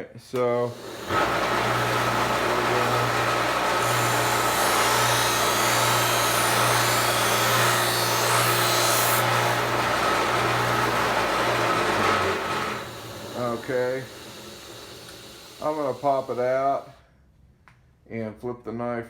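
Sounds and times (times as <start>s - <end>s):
sharpening machine motor hum: 0.4s - 16.9s.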